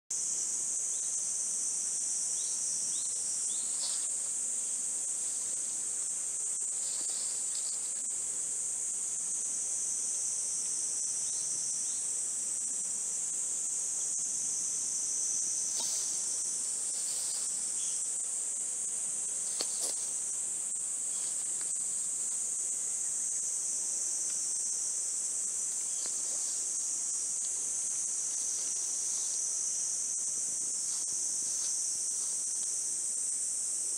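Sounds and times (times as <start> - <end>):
insects chorus: 0.1 - 33.9.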